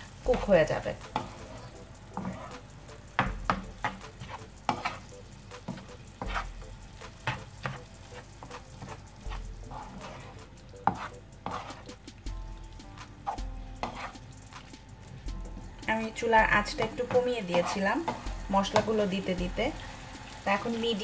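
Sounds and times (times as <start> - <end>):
soft sizzle: 0.0 - 21.0
wooden spatula scraping a pan: 0.1 - 21.0.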